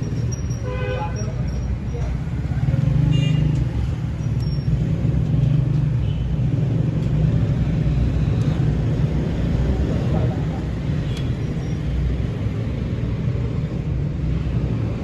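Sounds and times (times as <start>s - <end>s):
road traffic rumble: 0.0s - 15.0s
vehicle engines running: 0.0s - 15.0s.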